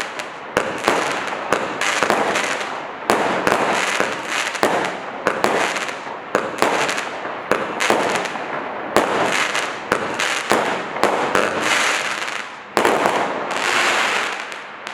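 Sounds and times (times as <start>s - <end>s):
crackling hiss of fireworks: 0.0s - 14.9s
fireworks sharp bangs: 0.0s - 14.9s.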